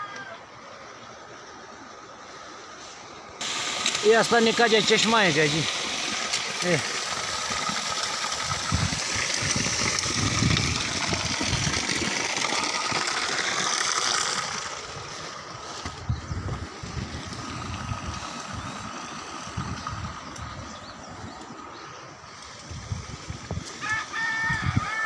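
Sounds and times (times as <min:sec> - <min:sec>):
water spouting from a pipe: 0:03.4 - 0:25.0.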